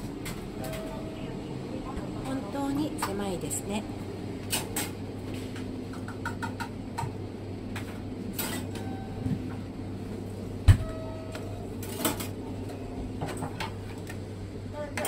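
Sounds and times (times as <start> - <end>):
kitchen low hum: 0.0 - 15.0.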